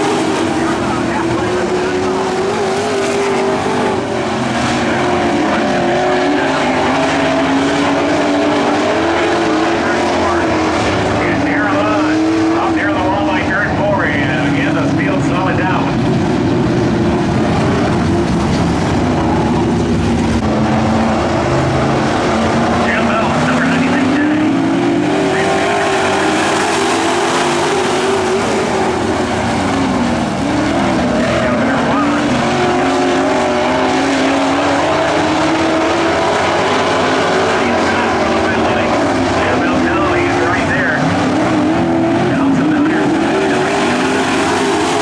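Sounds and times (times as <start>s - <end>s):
racing truck engines: 0.0s - 45.0s.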